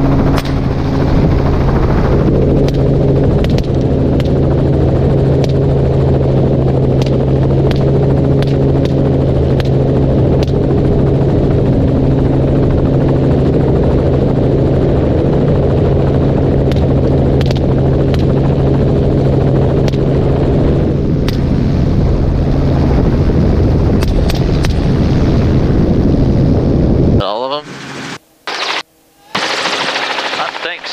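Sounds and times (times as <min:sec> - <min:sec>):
helicopter rotor and engine drone: 0:00.0 - 0:30.9.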